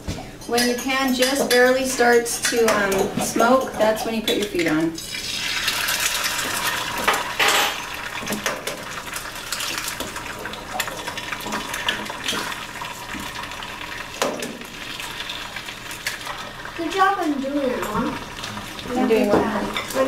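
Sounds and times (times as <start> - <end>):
eggs sizzling and crackling: 0.4 - 20.0.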